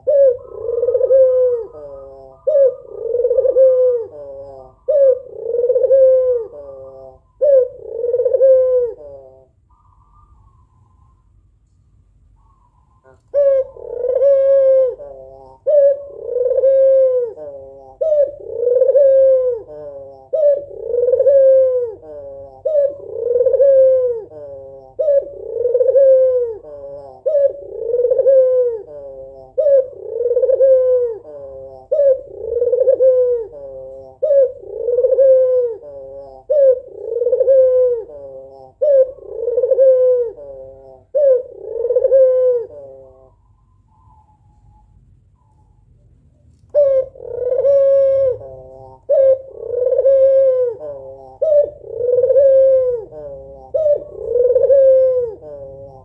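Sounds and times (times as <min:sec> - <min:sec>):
dove cooing: 0:00.0 - 0:11.4, 0:12.3 - 0:45.8, 0:46.7 - 0:56.0.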